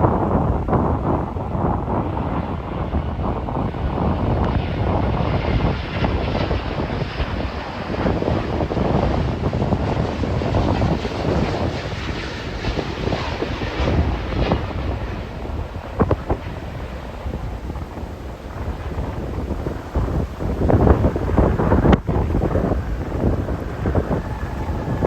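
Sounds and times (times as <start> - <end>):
jet engines roaring: 0.0 - 25.0
wind buffeting microphone: 0.0 - 25.0.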